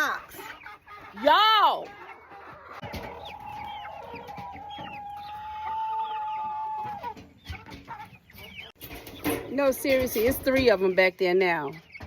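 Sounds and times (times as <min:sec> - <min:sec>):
hens chirping: 0:00.0 - 0:12.0
hens clucking: 0:00.0 - 0:12.0.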